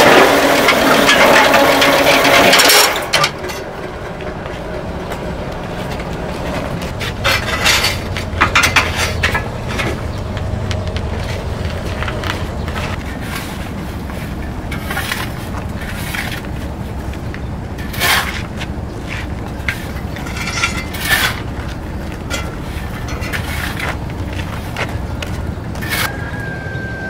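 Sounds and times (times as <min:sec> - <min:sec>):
metal cart scraping and knocking: 0:00.0 - 0:26.6.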